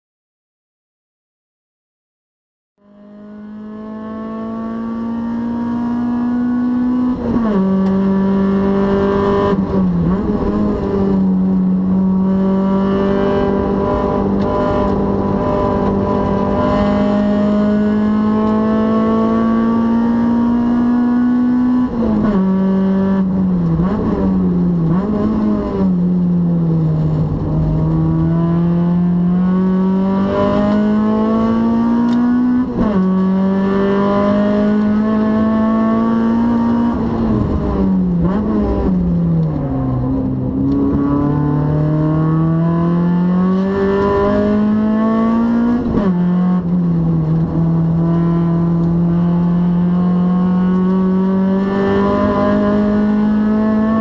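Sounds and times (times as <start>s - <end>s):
car engine revving from cabin: 2.8s - 54.0s.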